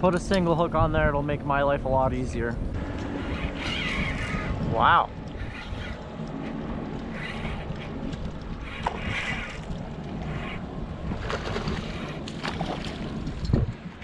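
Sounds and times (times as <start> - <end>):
wind buffeting microphone: 0.0 - 14.0
water lapping around a boat: 2.6 - 14.0.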